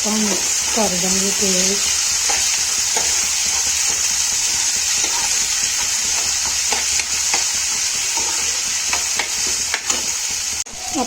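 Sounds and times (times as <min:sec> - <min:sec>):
food sizzling in hot oil: 0:00.0 - 0:11.0
stirring scrapes in a pan: 0:00.1 - 0:10.6.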